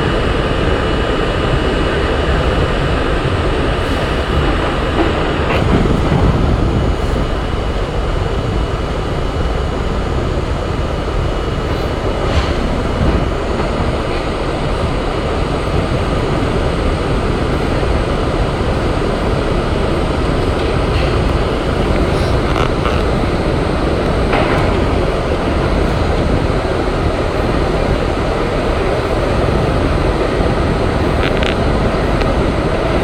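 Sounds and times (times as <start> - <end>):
subway train rumbling in tunnel: 0.0 - 33.0.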